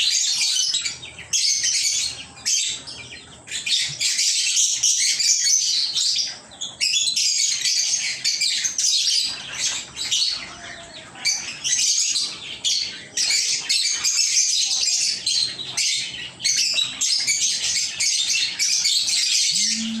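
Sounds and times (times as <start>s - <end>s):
lovebirds chirping: 0.0s - 20.0s.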